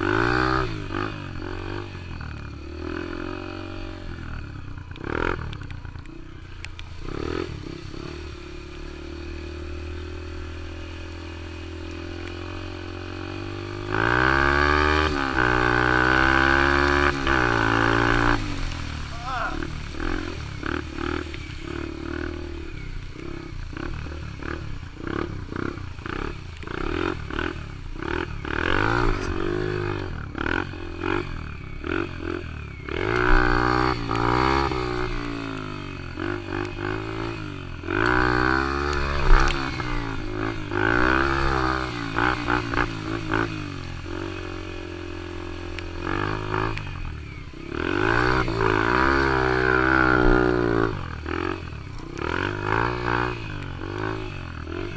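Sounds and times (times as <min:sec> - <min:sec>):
dirt bike engine revving: 0:00.0 - 0:05.6, 0:06.3 - 0:54.9.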